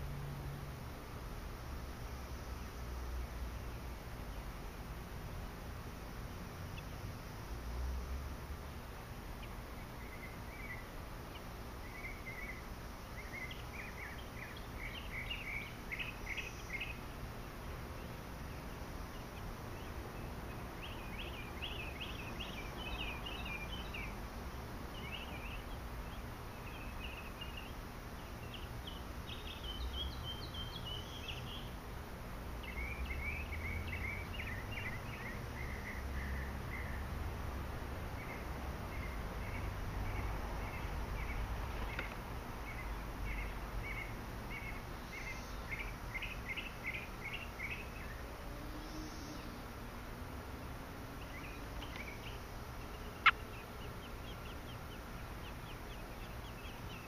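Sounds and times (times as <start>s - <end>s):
birds chirping: 0.9s - 57.0s.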